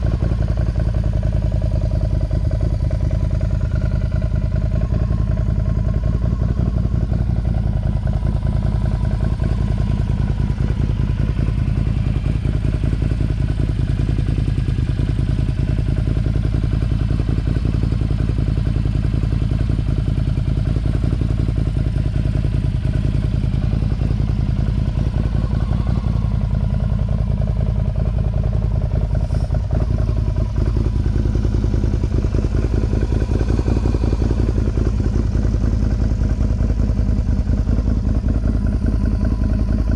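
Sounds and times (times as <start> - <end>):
atv engine pulsing exhaust: 0.0 - 39.9.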